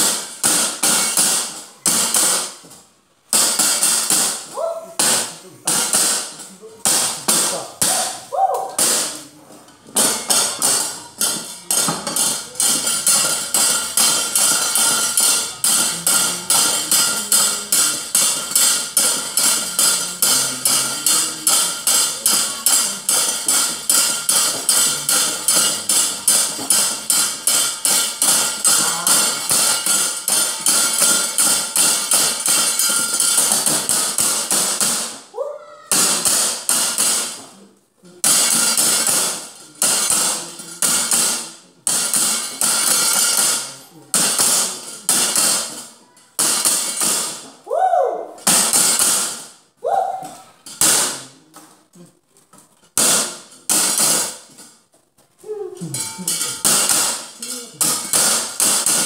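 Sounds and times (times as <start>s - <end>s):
metal plates struck: 0.0s - 35.3s, 35.9s - 47.6s, 48.4s - 51.5s, 52.9s - 54.7s, 55.8s - 59.0s.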